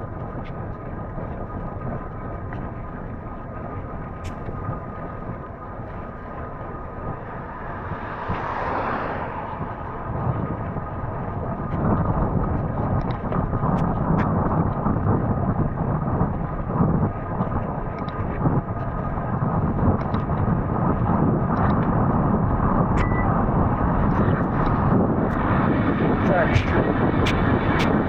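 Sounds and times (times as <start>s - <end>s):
wind and movement noise on microphone: 0.0s - 28.0s.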